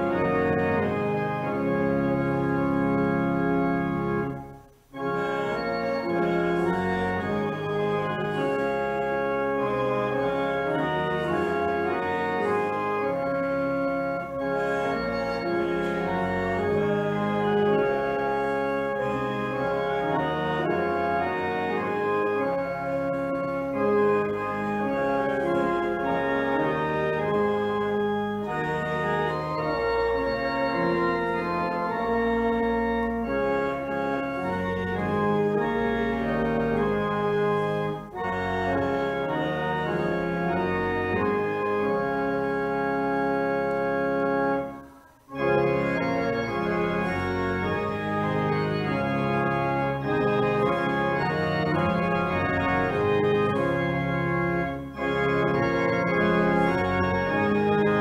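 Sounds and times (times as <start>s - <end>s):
church organ playing a hymn: 0.0s - 58.0s.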